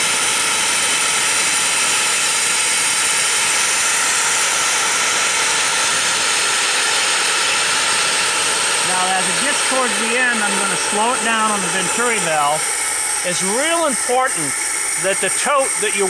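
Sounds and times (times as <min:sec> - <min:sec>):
vacuum valve rushing hiss: 0:02.0 - 0:16.0.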